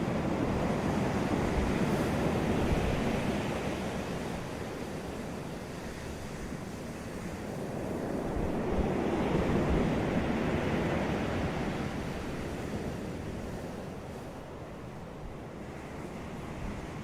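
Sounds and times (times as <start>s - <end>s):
low rumble of sea: 0.0s - 17.0s
waves breaking on beach: 0.0s - 17.0s
wind noise on microphone: 0.0s - 17.0s.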